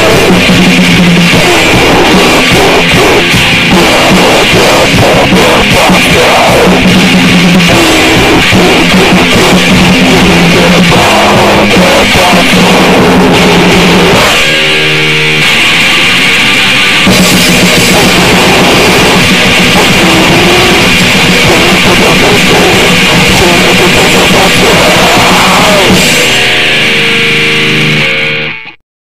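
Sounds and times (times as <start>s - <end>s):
drum kit: 0.0s - 28.6s
distorted guitar: 0.0s - 28.8s.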